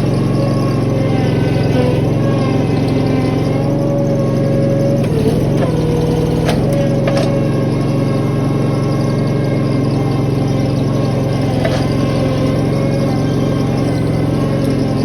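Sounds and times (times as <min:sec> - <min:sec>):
engine with hydraulic whine: 0:00.0 - 0:15.0.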